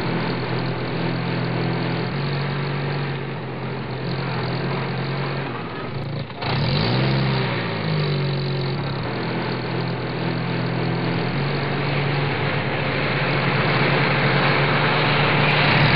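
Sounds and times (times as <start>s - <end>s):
truck engine idling: 0.0s - 15.9s
truck engine revving: 0.0s - 15.9s.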